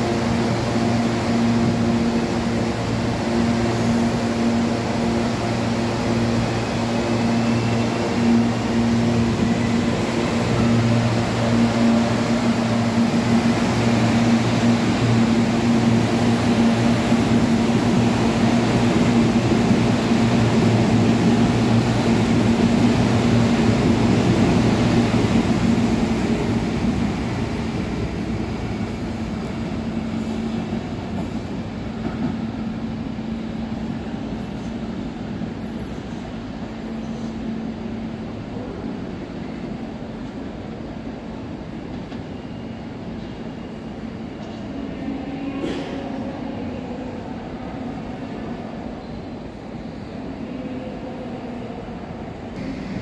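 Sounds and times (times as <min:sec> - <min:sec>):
electric train hum: 0:00.0 - 0:53.0.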